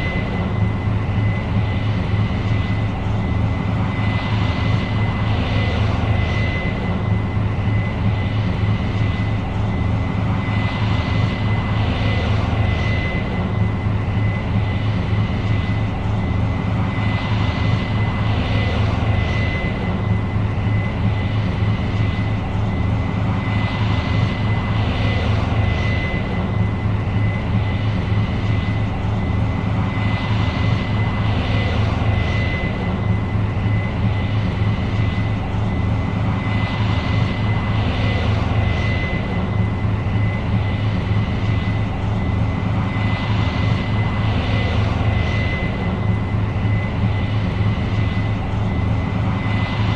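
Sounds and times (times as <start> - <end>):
combine engine drone: 0.0 - 49.9
high whine: 0.0 - 49.9.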